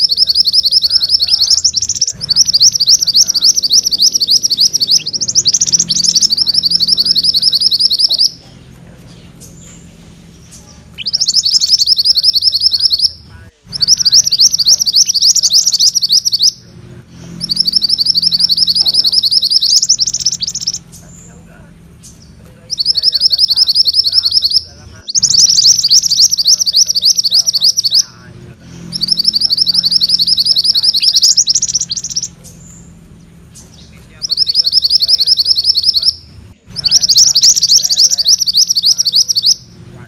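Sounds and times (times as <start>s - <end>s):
songbird fast rolling trill: 0.0s - 40.0s.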